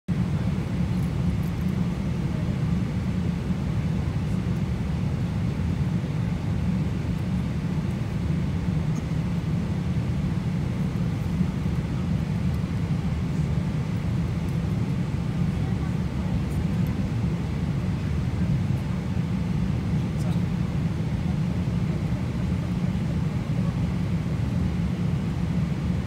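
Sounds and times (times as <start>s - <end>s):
airliner engine and airflow rumble: 0.1s - 26.0s.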